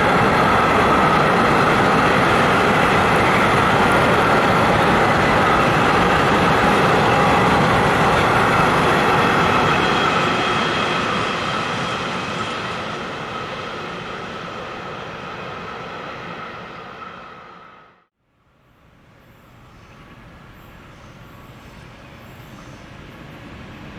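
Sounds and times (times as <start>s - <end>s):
train wheels rushing on rails: 0.0s - 17.9s, 19.2s - 23.9s.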